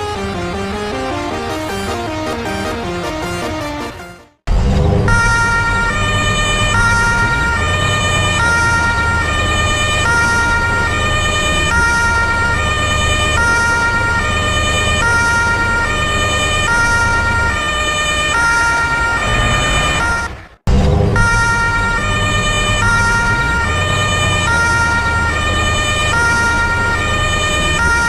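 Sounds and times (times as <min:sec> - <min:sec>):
truck musical horn: 0:00.0 - 0:04.4, 0:05.1 - 0:20.5, 0:21.2 - 0:28.0.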